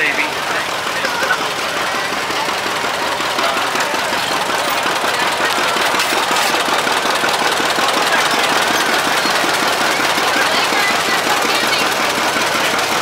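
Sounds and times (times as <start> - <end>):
tractor engine knocking: 0.0 - 13.0.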